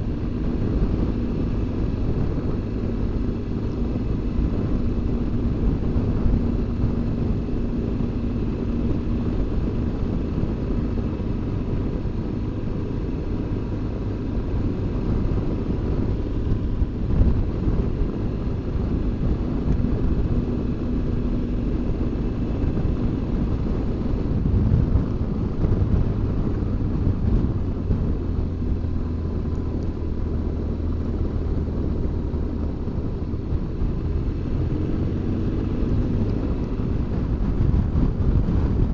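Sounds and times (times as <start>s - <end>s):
motorcycle engine running: 0.0s - 38.9s
road noise: 0.0s - 38.9s
wind noise: 0.0s - 38.9s.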